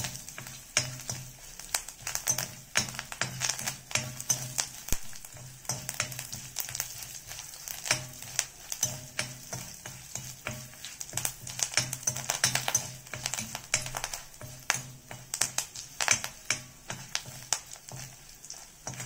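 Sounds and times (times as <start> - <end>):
spices sizzling in hot oil: 0.0 - 19.0
steel spoon scraping a pan: 0.0 - 19.0.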